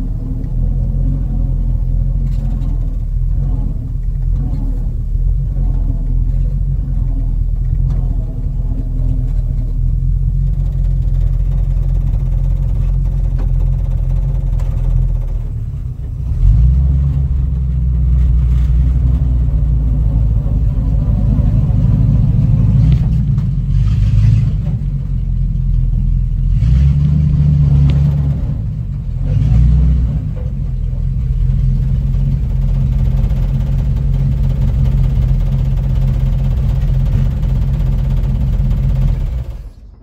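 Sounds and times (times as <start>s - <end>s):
truck engine rumbling: 0.0s - 40.0s.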